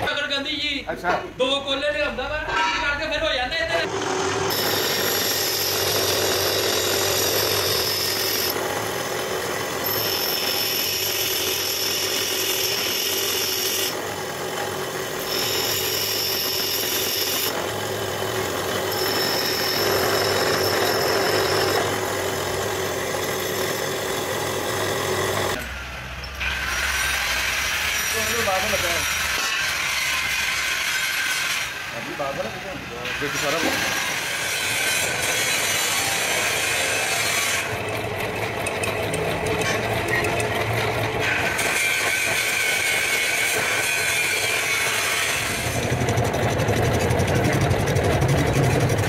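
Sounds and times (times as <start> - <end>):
bench grinder humming: 3.8 - 25.7, 26.4 - 49.0.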